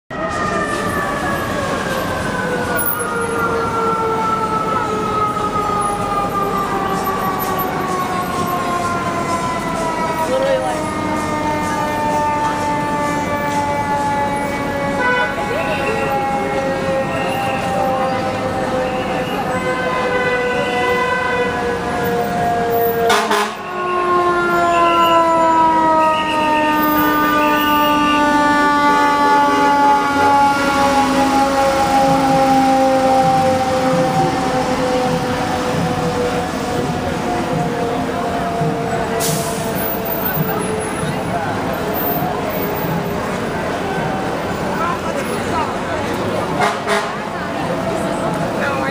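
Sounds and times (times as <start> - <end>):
city street traffic: 0.1 - 48.9
fire engine siren: 0.1 - 48.9.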